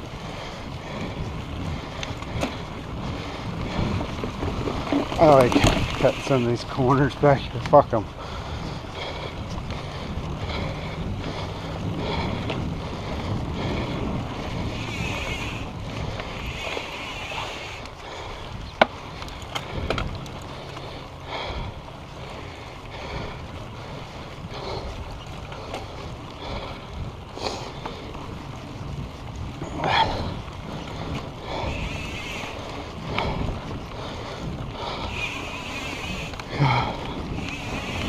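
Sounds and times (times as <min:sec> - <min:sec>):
bike rattles and knocks: 0:00.0 - 0:38.0
bike tyre noise on dirt: 0:00.0 - 0:38.0
wind rushing over microphone: 0:00.0 - 0:38.0.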